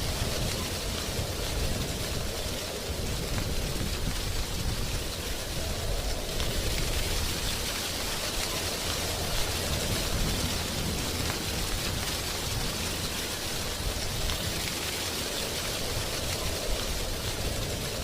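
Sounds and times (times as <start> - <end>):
wind rustling leaves: 0.0 - 18.0.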